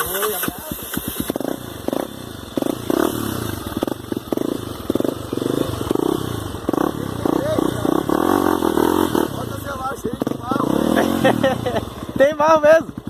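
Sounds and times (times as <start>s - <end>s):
motorcycle engine throttle blips: 0.0s - 13.0s.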